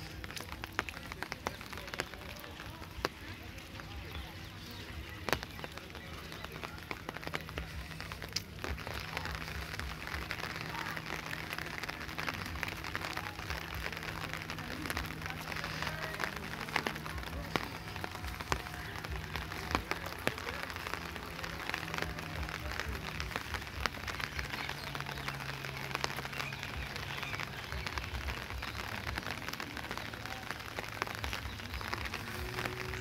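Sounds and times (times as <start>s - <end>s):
drops ticking close by: 0.0s - 33.0s
steady rain falling: 0.0s - 33.0s.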